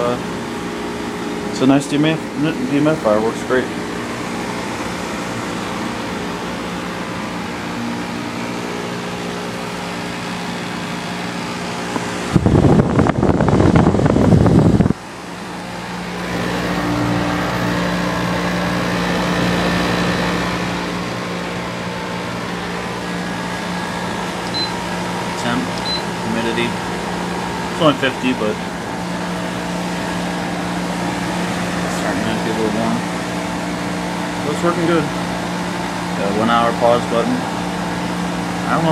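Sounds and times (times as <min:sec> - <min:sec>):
dehumidifier humming: 0:00.0 - 0:38.9.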